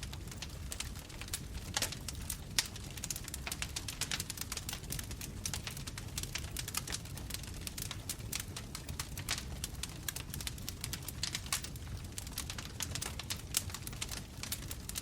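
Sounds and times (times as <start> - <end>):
burning wood snapping and popping: 0.0 - 15.0
low rumble of flames: 0.0 - 15.0.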